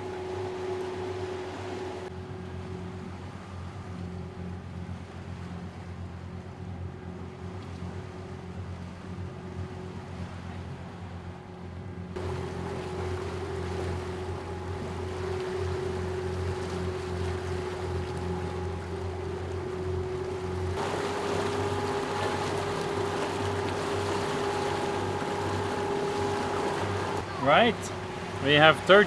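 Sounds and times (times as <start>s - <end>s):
water rushing past hull: 0.0s - 11.3s, 12.1s - 29.0s
boat engine droning: 0.0s - 29.0s.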